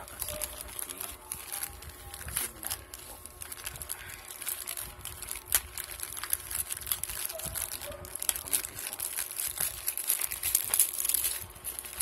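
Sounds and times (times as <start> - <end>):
plastic bag crinkling and rustling: 0.0 - 12.0
plastic bag snapping: 0.0 - 12.0.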